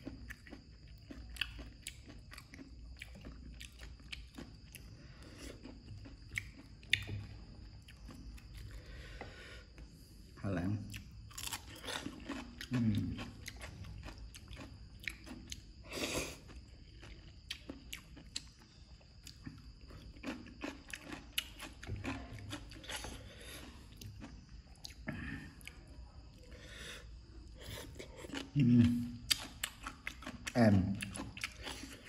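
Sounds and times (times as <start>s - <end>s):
person chewing crunchy vegetables: 0.0s - 10.0s, 10.8s - 32.0s.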